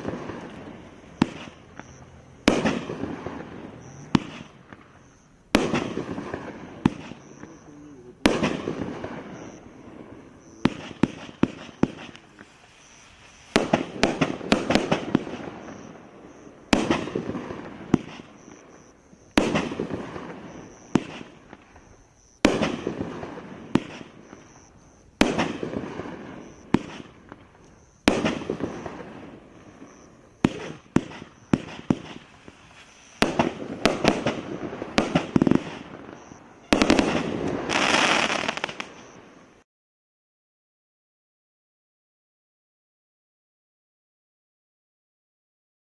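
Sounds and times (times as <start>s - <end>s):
fireworks bangs and pops: 0.0s - 39.6s.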